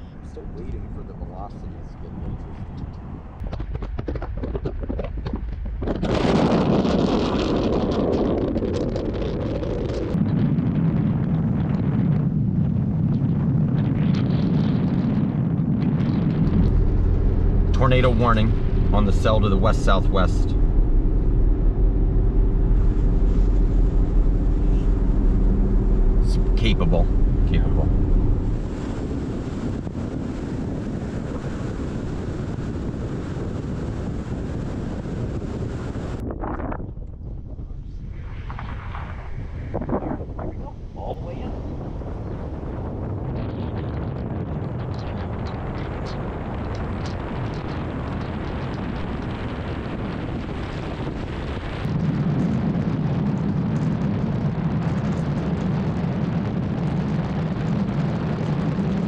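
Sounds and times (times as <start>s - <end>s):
car road and wind noise: 0.0s - 59.0s
deeper hum: 0.0s - 59.0s.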